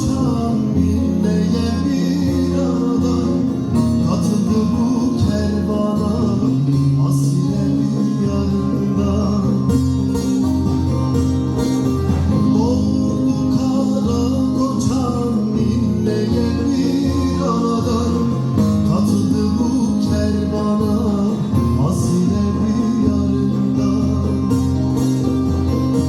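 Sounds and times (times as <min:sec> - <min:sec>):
person singing: 0:00.0 - 0:10.4, 0:12.4 - 0:25.2
plucked string instruments: 0:00.0 - 0:26.0
steady bass: 0:00.0 - 0:26.0.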